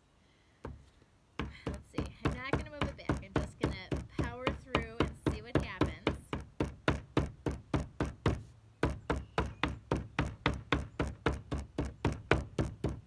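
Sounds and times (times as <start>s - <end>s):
rubber mallet pounding on table: 1.4s - 13.0s.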